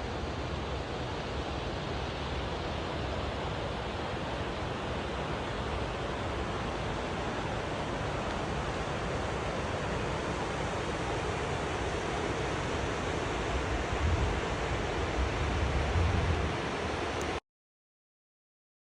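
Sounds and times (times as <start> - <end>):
low rumble of water: 0.1 - 17.4
waterfall rushing: 0.2 - 17.3.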